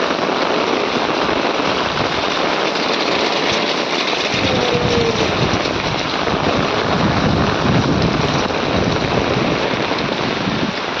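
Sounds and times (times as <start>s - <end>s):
heavy rain pouring: 0.0s - 11.0s
wind buffeting microphone: 0.2s - 11.0s.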